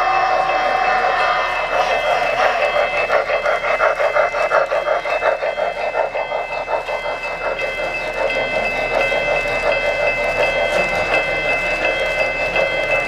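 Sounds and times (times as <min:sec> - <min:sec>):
model train wheels rattling: 0:00.0 - 0:13.0.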